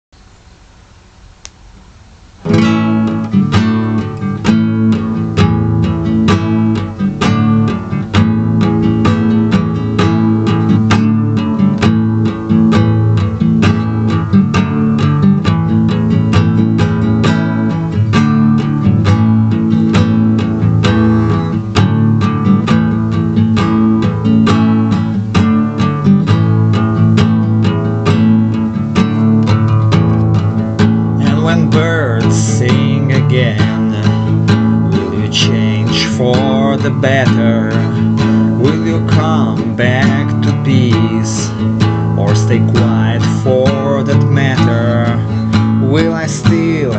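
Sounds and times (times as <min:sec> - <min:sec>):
strummed acoustic guitar: 0:02.4 - 0:46.9.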